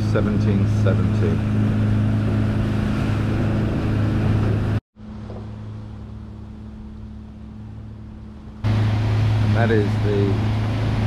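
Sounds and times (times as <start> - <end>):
boat engine droning: 0.0 - 11.0
quiet engine hum: 0.0 - 11.0.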